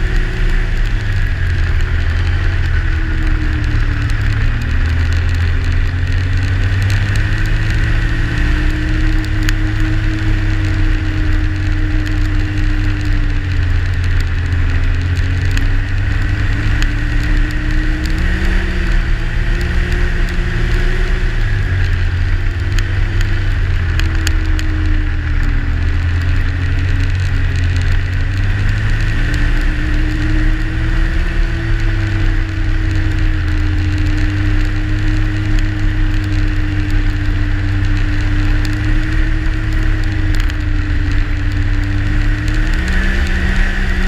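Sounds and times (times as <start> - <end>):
snowmobile engine running: 0.0 - 44.0
wind noise: 0.0 - 44.0.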